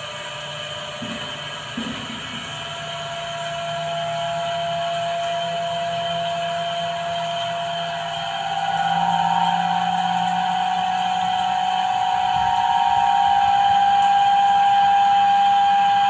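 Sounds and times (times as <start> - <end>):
machine hum with held tones: 0.0 - 16.0.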